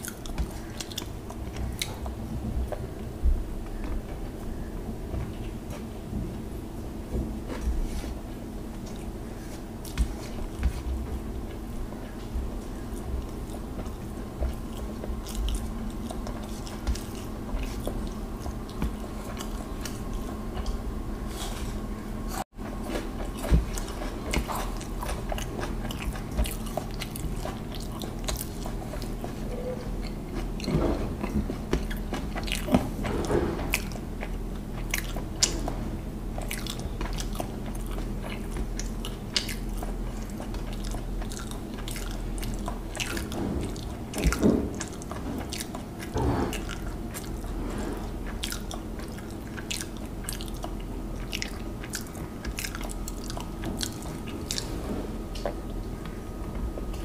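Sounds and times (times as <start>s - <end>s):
person chewing with wet smacks: 0.0s - 6.1s, 7.4s - 57.0s
steady low hum: 0.0s - 57.0s.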